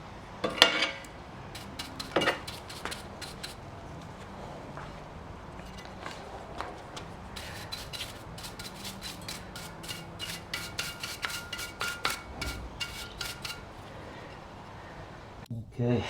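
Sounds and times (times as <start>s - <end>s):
metal scraping on metal: 0.4s - 3.7s, 5.5s - 15.4s.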